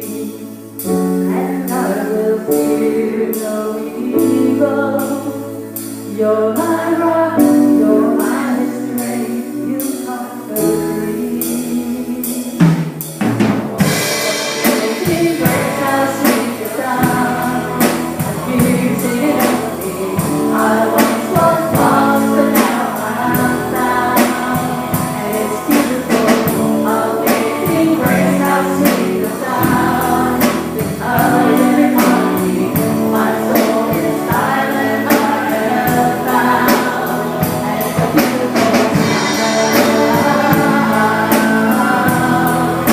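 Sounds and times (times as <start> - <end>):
band and singers performing gospel: 0.0 - 42.9
drum kit: 0.0 - 42.9.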